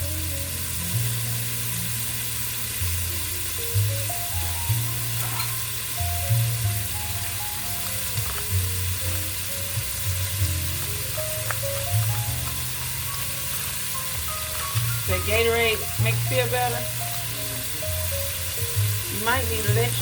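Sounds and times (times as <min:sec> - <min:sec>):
background music with bass: 0:00.0 - 0:20.0
chicken sizzling in a pan: 0:00.0 - 0:20.0.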